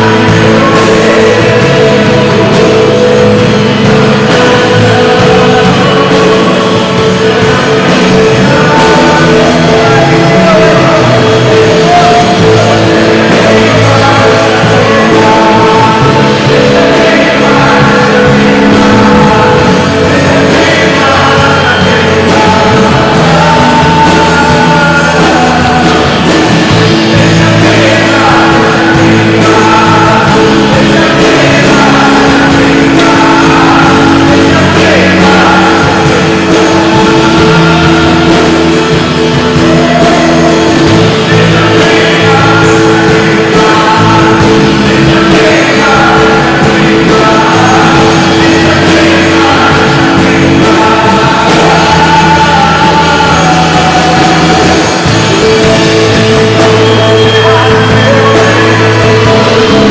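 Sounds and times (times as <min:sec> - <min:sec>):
guitar: 0:00.0 - 0:59.9
keyboard chords: 0:00.0 - 0:59.9
live worship band music: 0:00.0 - 0:59.9
people singing: 0:00.0 - 0:59.9.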